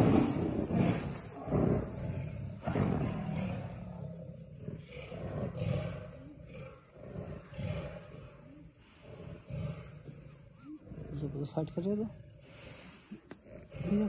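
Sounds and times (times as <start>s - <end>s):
tiger growling: 0.0s - 14.0s.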